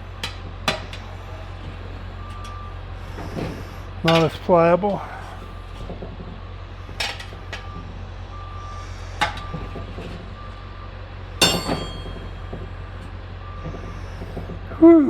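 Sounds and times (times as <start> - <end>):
tire irons clanking on wheel rim: 0.0 - 7.9, 9.2 - 10.6, 11.3 - 14.8.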